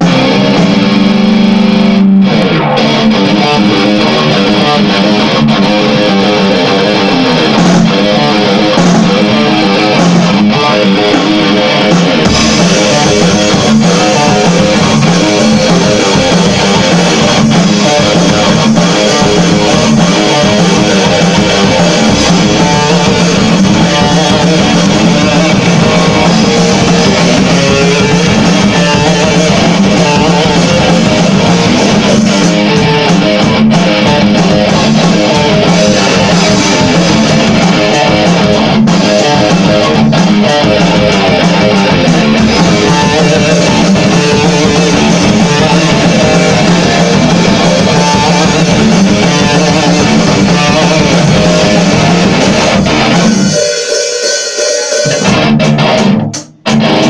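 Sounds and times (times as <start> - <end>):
distorted electric guitar: 0.0 - 57.0
drum kit: 0.0 - 57.0.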